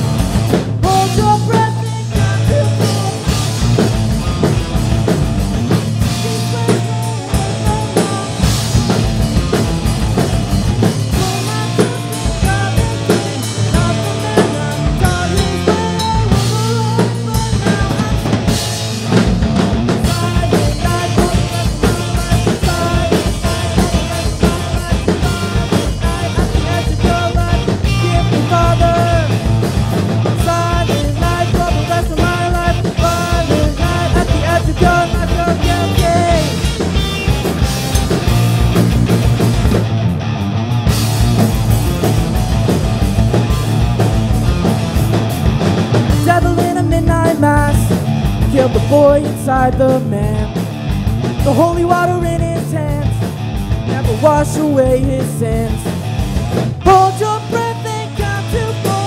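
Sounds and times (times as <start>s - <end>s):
bass guitar: 0.0s - 59.0s
drum kit beat: 0.0s - 59.0s
electric guitar: 0.0s - 59.0s
live rock band playing: 0.0s - 59.0s.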